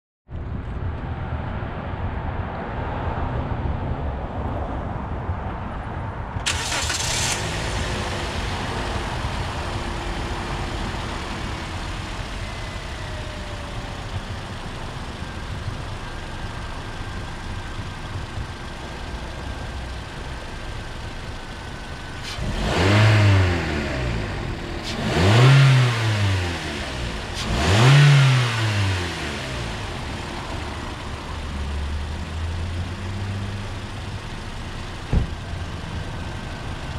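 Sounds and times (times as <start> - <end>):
car engine idling: 6.4 - 36.9
car engine revving: 6.5 - 36.9.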